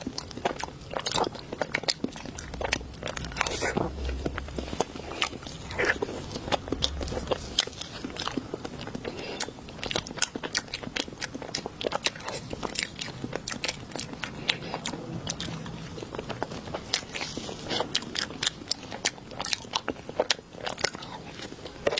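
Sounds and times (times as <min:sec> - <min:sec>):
crunchy chewing and biting: 0:00.0 - 0:21.9.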